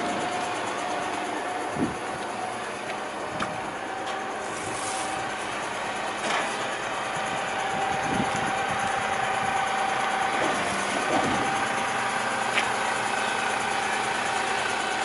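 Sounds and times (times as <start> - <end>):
rubbish truck idling: 0.0 - 15.0
steady whine: 0.0 - 15.0.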